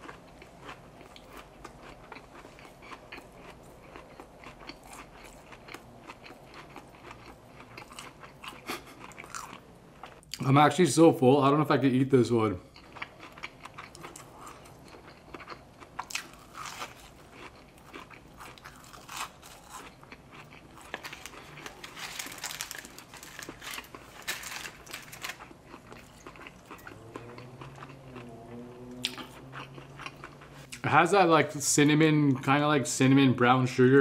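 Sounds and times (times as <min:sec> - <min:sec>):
chewing crispy food: 0:00.0 - 0:10.5, 0:12.6 - 0:30.9.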